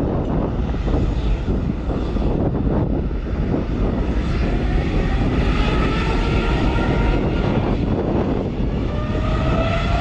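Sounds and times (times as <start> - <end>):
faint engine whine: 0.0 - 10.0
jet engines rumbling at takeoff: 0.0 - 10.0.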